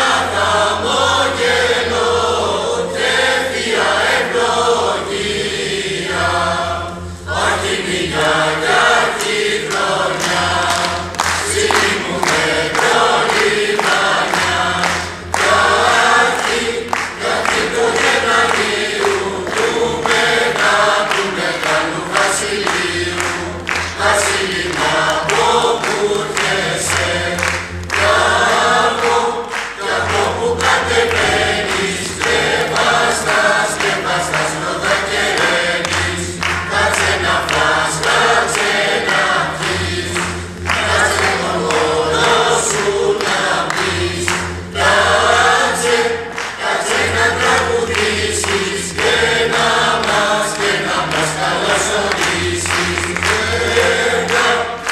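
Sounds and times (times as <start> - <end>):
choir singing a carol: 0.0 - 54.9.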